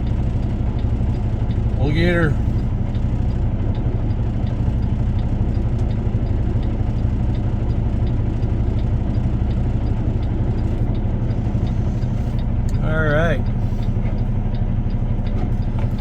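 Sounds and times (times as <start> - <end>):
faint regular ticking: 0.0 - 16.0
truck diesel engine idling: 0.0 - 16.0.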